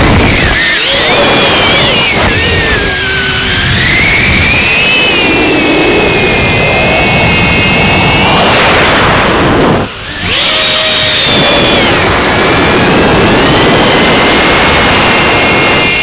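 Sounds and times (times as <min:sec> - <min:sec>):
rush of air: 0:00.0 - 0:14.4
drone motors whining: 0:00.0 - 0:16.0.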